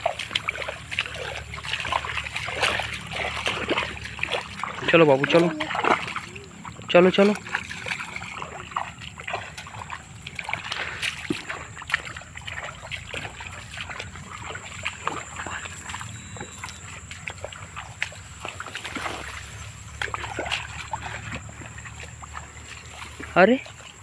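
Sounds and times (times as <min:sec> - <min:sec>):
water splashing and sloshing: 0:00.0 - 0:24.0
water trickling: 0:00.0 - 0:24.0.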